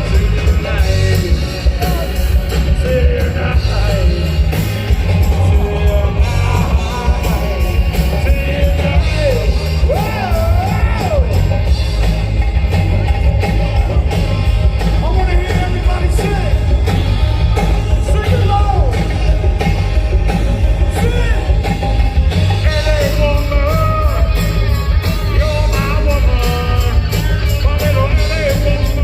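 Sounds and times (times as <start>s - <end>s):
drums beating: 0.0s - 29.0s
rock band playing and singing: 0.0s - 29.0s.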